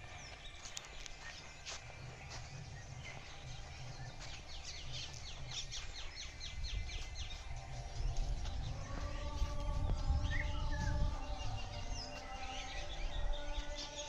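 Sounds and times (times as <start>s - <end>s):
low rumble: 0.0s - 13.7s
bird chirping: 0.0s - 14.0s.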